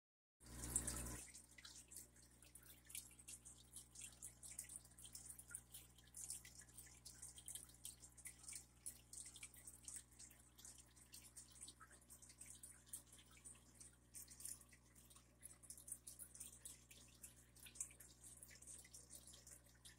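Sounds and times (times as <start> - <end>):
water dripping: 0.4 - 19.9.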